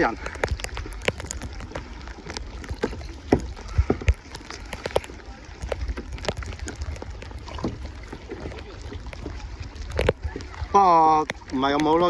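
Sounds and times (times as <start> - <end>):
knocks and splashes: 0.0 - 12.0
paddle strokes in water: 0.0 - 12.0.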